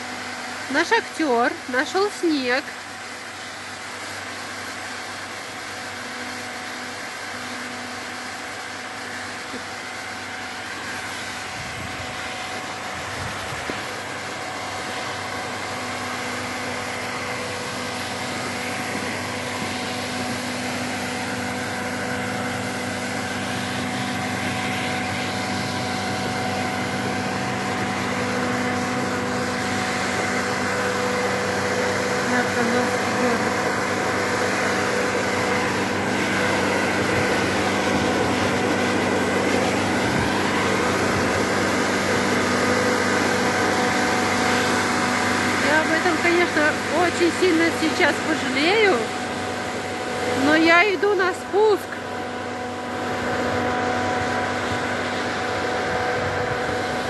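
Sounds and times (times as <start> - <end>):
snow machine fan whir: 0.0 - 57.0.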